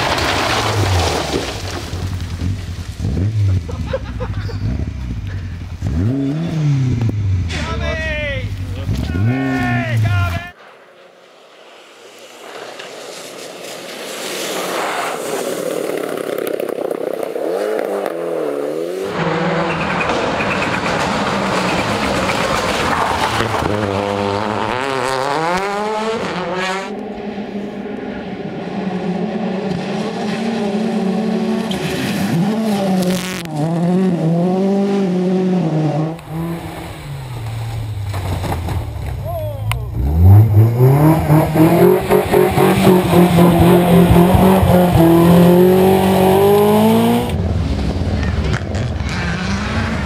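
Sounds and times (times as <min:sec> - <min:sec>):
rally car engines revving: 0:00.0 - 0:10.6, 0:11.7 - 0:50.0.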